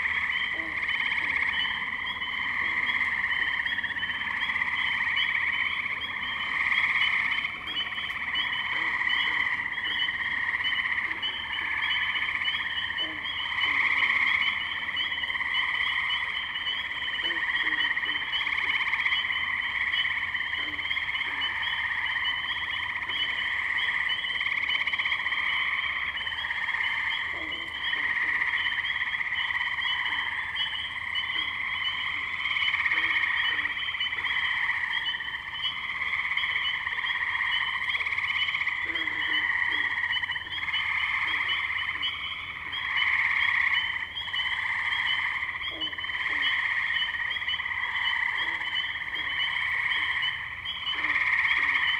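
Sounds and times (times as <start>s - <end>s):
tree frogs chorus: 0.0s - 51.9s.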